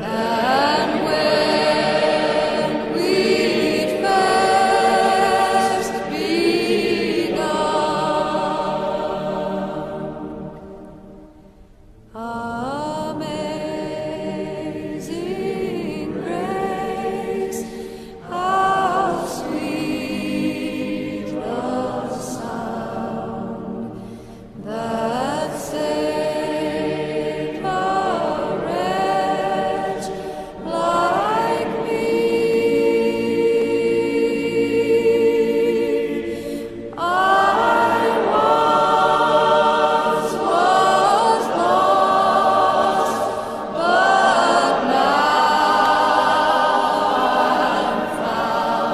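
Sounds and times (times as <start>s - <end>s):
choir singing a slow hymn: 0.0s - 48.9s.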